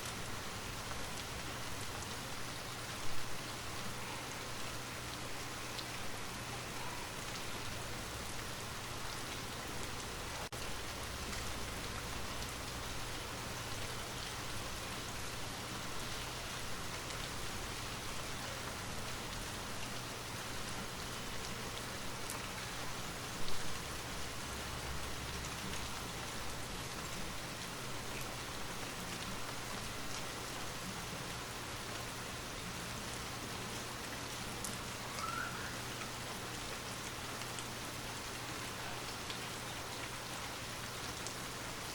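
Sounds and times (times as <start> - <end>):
rain falling on a surface: 0.0 - 41.9.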